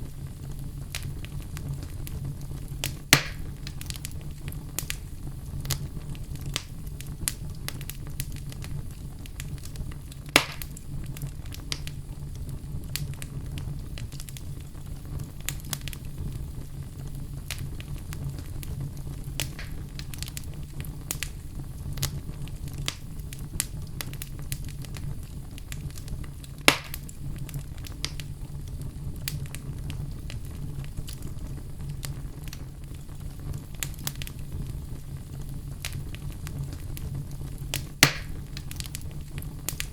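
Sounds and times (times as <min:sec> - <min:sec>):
low steady rumble: 0:00.0 - 0:39.9
sharp snaps of fire: 0:00.0 - 0:39.9
wood fire crackling: 0:00.0 - 0:39.9.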